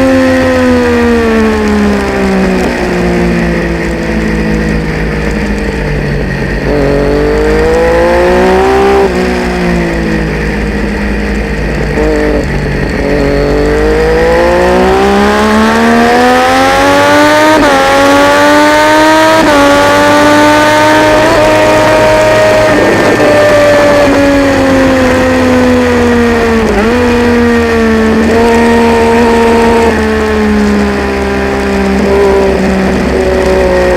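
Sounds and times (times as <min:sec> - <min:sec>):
gear upshifts: 0:00.0 - 0:33.9
motorcycle engine revving: 0:00.0 - 0:33.9.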